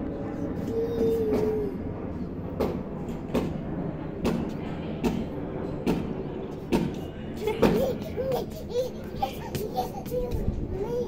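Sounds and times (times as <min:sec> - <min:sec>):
airplane rumble overhead: 0:00.0 - 0:11.0.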